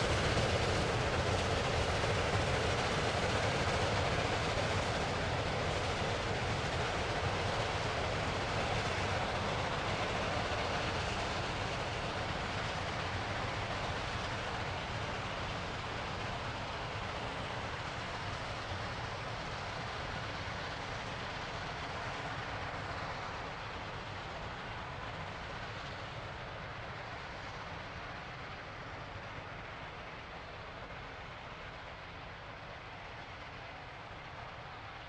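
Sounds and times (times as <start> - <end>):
train rumbling on tracks: 0.0 - 35.0.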